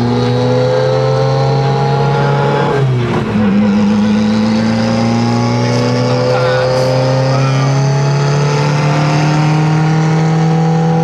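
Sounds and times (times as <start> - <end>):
turbocharged car engine revving: 0.0 - 11.0.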